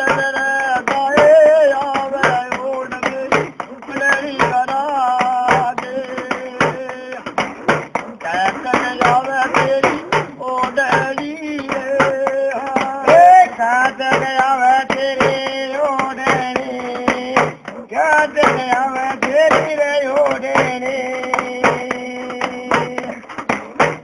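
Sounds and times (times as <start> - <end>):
man singing folk song: 0.0 - 23.9
steady drum beat: 0.0 - 24.0.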